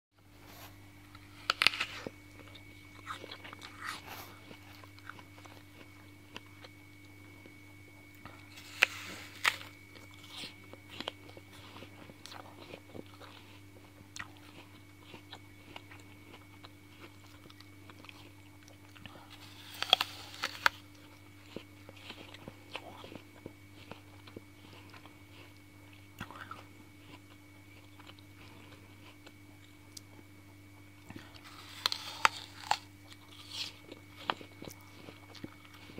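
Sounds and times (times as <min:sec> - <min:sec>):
chewing crunches: 0:00.5 - 0:35.9
crunching apple bites: 0:00.5 - 0:35.9.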